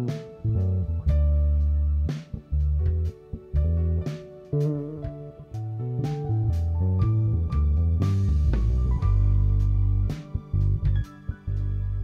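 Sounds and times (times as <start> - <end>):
electric bass guitar notes: 0.0 - 12.0.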